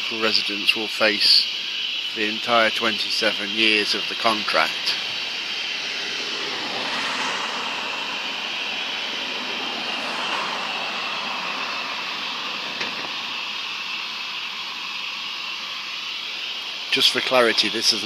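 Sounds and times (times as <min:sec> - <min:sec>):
steady hiss: 0:00.0 - 0:18.0
high-pitched squeal: 0:02.0 - 0:18.0.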